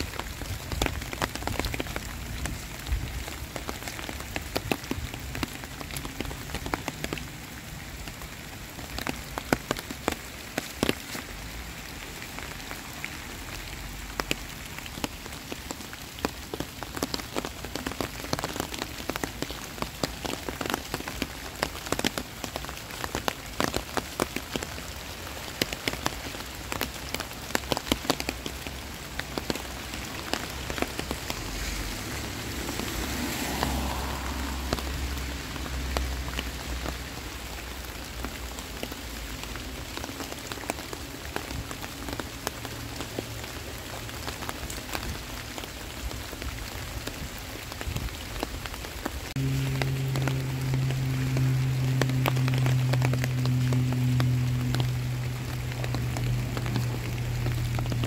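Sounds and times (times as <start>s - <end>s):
heavy rain hissing: 0.0s - 58.0s
raindrops ticking close by: 0.0s - 58.0s.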